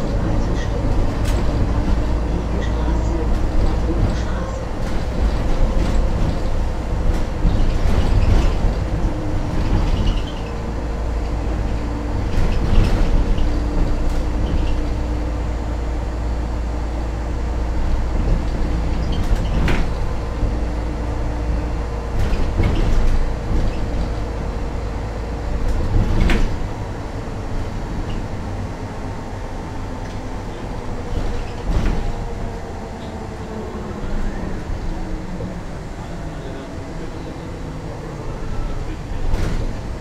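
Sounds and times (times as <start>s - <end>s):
bus engine rumble: 0.0s - 40.0s.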